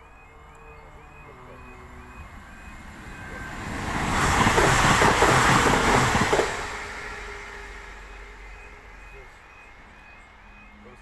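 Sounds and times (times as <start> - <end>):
train rushing over rails: 0.0 - 11.0
two-tone crossing warning alarm: 0.0 - 11.0.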